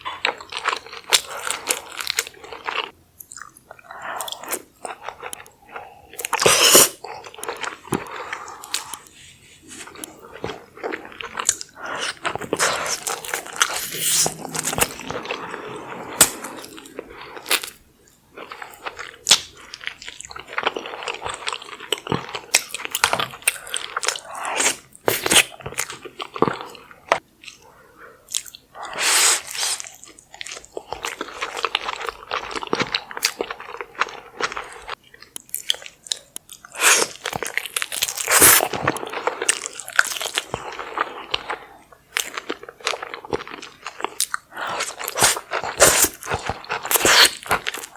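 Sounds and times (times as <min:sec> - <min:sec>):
person chewing and crunching food: 0:00.0 - 0:47.9.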